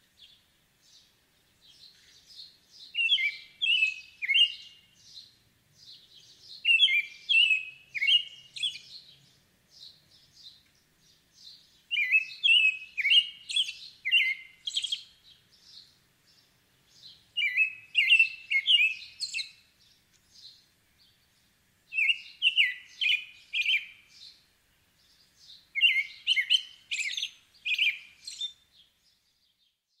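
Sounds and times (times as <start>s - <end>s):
robin singing whistled phrases: 0.1s - 29.9s.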